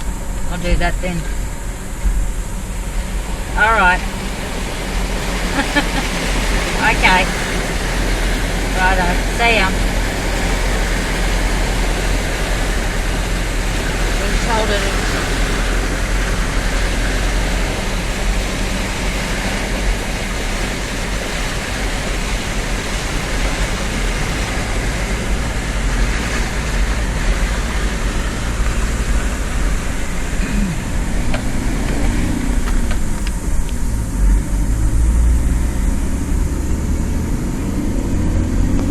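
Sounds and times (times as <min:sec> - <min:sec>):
steady rushing noise: 0:00.0 - 0:38.9
vehicle engine running: 0:00.0 - 0:38.9.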